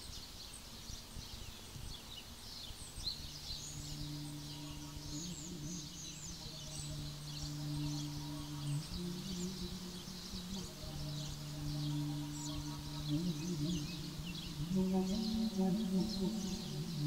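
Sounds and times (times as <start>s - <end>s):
songbirds chirping and singing: 0.0s - 17.0s
steady low hum: 3.2s - 17.0s.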